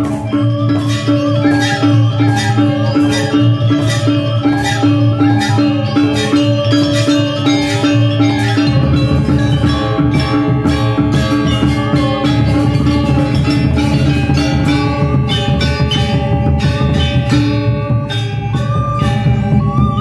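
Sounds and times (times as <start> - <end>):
bamboo flutes: 0.0 - 20.0
gong: 0.0 - 20.0
hand drum rhythm: 0.0 - 20.0
metallophones ringing: 0.0 - 20.0.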